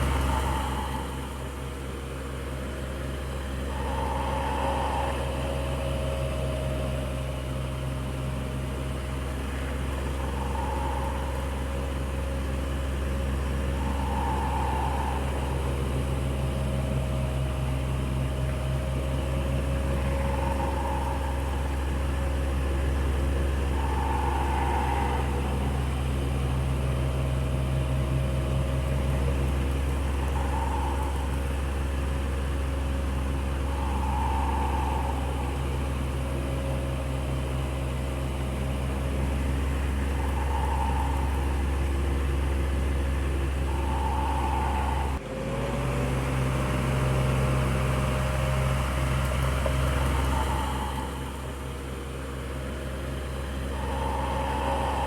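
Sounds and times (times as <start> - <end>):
electric fan running: 0.0 - 45.2, 45.9 - 55.0.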